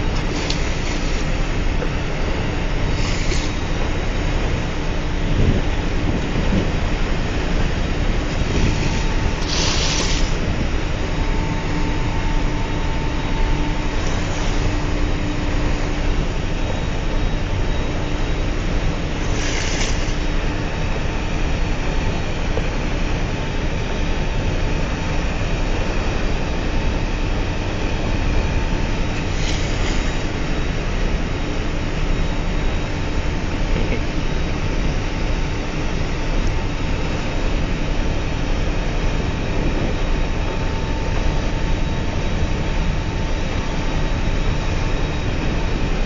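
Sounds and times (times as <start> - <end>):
faint steady hum: 0.0 - 46.0
ship engines rumbling: 0.0 - 46.0.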